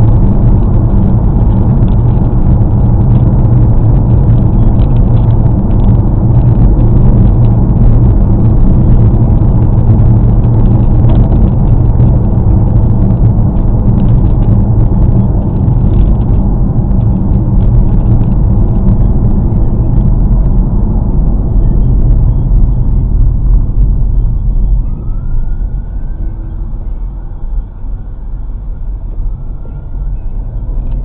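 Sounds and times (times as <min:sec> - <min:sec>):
car road and tyre rumble: 0:00.0 - 0:31.0.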